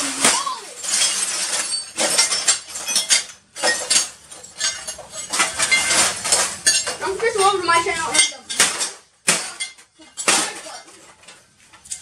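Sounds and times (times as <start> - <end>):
broken glass pieces clinking: 0.0 - 12.0.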